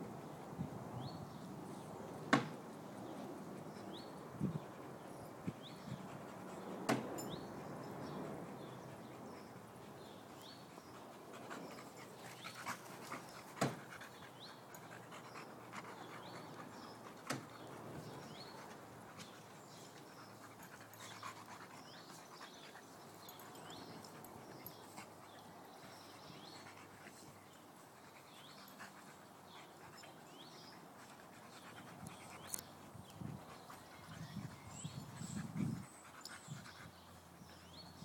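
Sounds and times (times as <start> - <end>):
dogs panting: 4.6 - 38.0.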